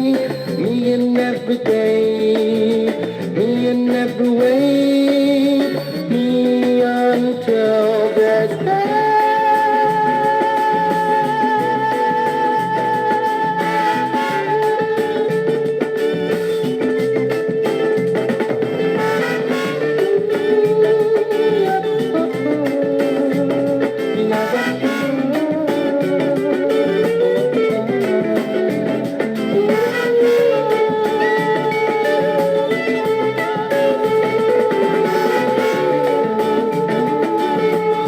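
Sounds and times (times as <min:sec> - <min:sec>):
soul music with guitar: 0:00.0 - 0:38.0.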